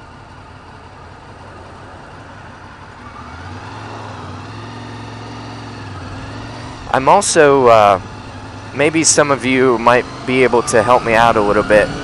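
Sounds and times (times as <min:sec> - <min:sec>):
motorcycle engine idling: 0:00.0 - 0:12.0
motorcycle moving off: 0:00.0 - 0:12.0.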